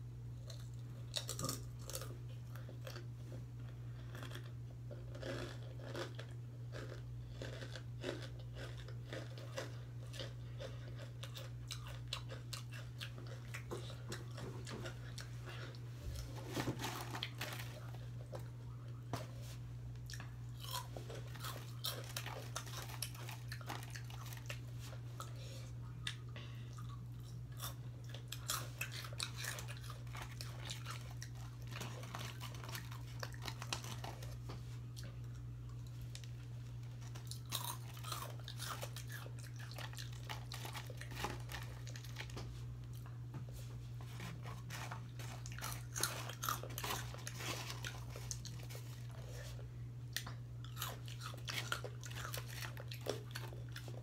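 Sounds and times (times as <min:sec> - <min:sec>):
chewing crunchy chips: 0:00.3 - 0:19.2, 0:19.9 - 0:43.3, 0:44.1 - 0:54.0.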